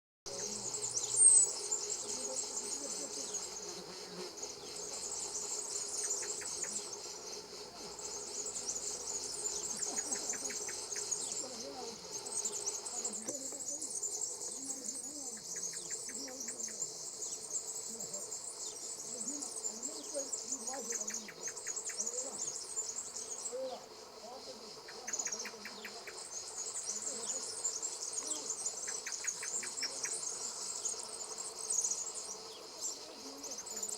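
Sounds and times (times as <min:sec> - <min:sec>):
bird chirp: 0:00.3 - 0:33.9
insects buzzing chorus: 0:00.3 - 0:33.9
rapid insect ticking: 0:00.3 - 0:33.9.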